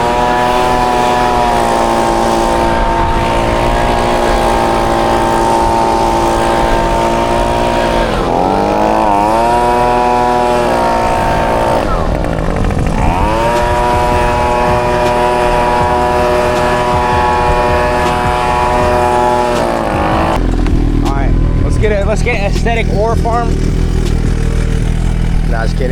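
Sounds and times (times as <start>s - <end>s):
motor running: 0.0s - 25.9s.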